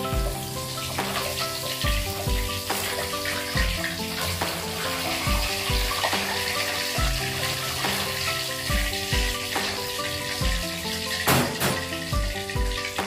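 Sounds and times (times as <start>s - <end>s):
background music with beat: 0.0s - 13.0s
fish sizzling in hot oil: 0.0s - 13.0s.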